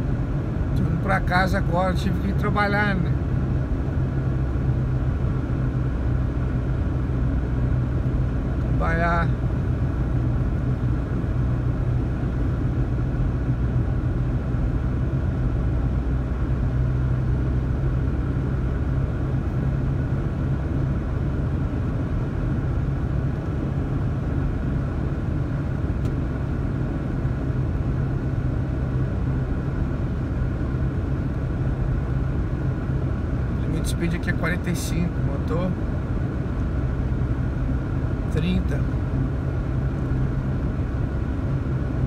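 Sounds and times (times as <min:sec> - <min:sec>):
car engine low hum: 0:00.0 - 0:42.0
tyres rumbling on snowy road: 0:00.0 - 0:42.0.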